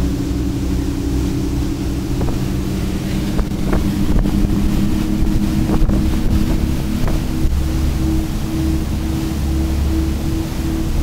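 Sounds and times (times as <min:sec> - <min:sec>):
boat engines humming: 0:00.0 - 0:11.0
wind buffeting microphone: 0:00.0 - 0:11.0.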